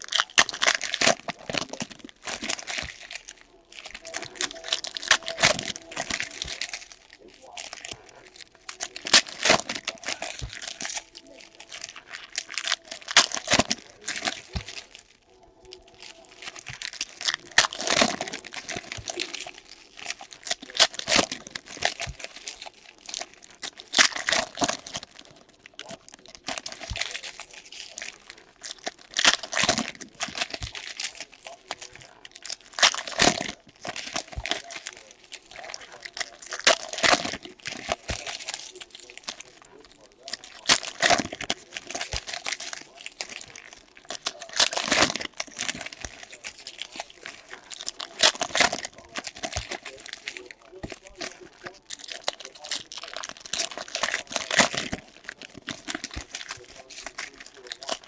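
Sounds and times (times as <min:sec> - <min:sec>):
card pack wrappers tearing and crinkling: 0:00.0 - 0:58.0.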